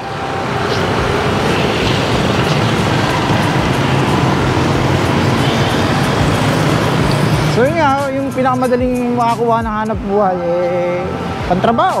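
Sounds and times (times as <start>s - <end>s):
engine running: 0.0s - 12.0s
road and traffic noise: 0.0s - 12.0s.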